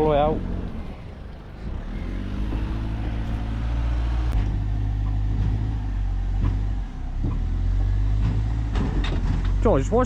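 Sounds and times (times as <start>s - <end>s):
diesel engine humming: 0.0s - 10.0s.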